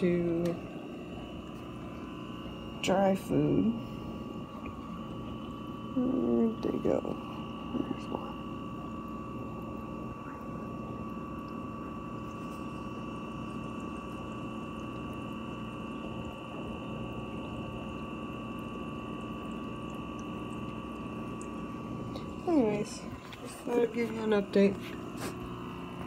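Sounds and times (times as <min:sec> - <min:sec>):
aquarium pump humming: 0:00.0 - 0:26.0
water noise: 0:00.0 - 0:26.0.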